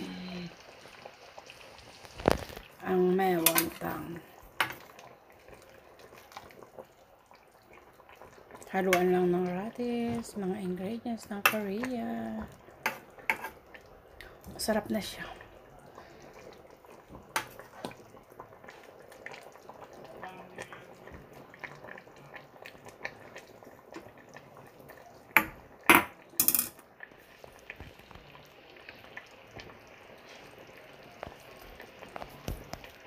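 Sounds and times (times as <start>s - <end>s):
stew bubbling in a pot: 0.0s - 33.0s.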